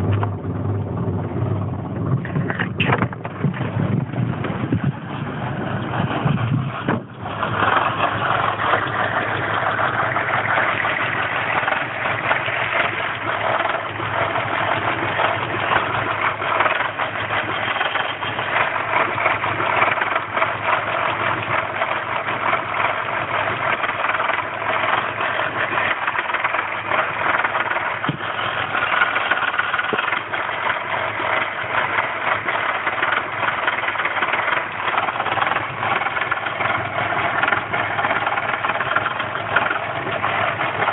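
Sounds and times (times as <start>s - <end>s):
car engine idling roughly: 0.0s - 40.9s.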